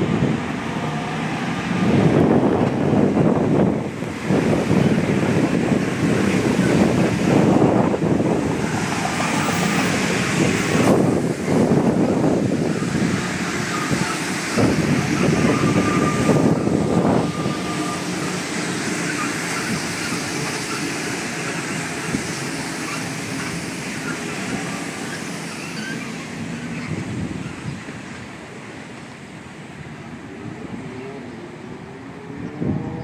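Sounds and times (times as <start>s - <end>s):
train running into tunnel: 0.0s - 33.0s.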